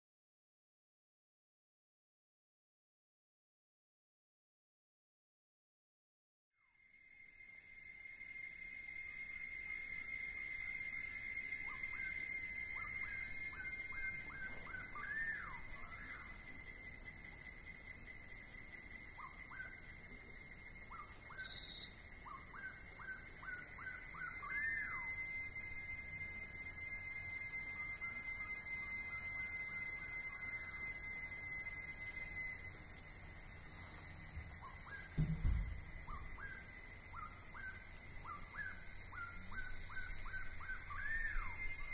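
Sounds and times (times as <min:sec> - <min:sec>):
insect chorus: 0:06.6 - 0:41.9.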